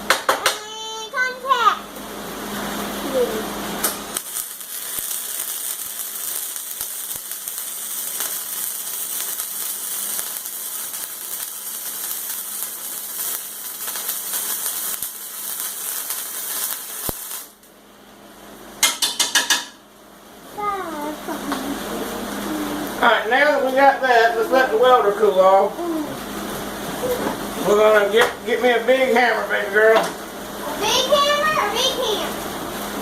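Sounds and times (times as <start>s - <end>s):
welding arc crackling hiss: 0.0s - 33.0s.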